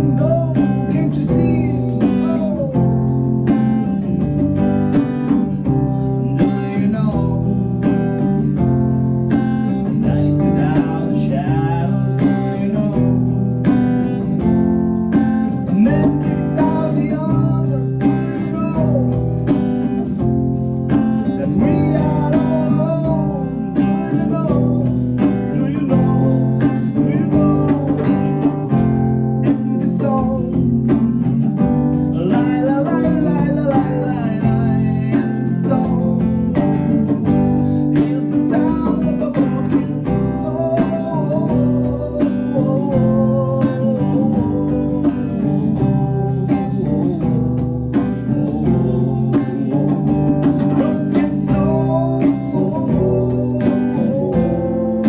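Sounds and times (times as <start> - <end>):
acoustic guitar: 0.0 - 55.0
drums keeping a beat: 0.0 - 55.0.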